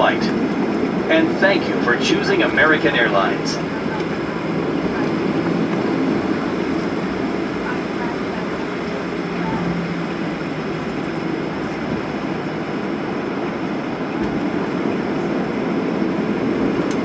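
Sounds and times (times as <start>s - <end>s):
airplane cabin rumble while taxiing: 0.0s - 17.0s.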